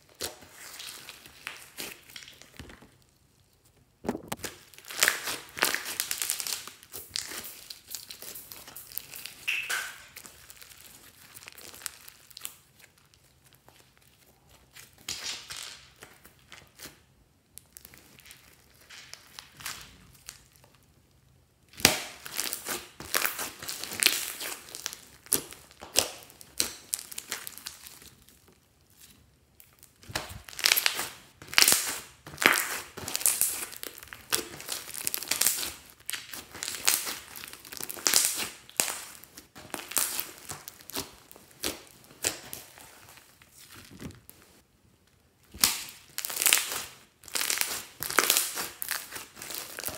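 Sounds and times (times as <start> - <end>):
slime squishing and crackling: 0.0 - 49.9.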